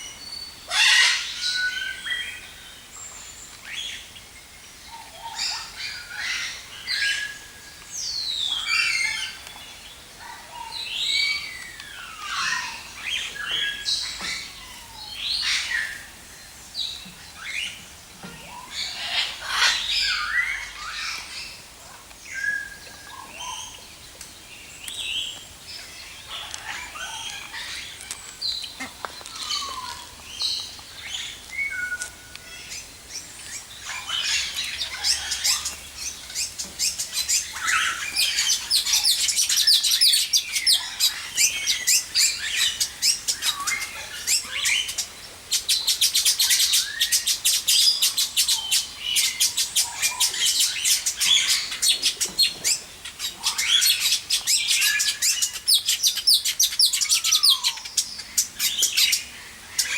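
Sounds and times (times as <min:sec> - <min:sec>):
birds chirping and whistling: 0:04.9 - 0:16.2, 0:16.8 - 0:21.6, 0:22.2 - 0:59.9.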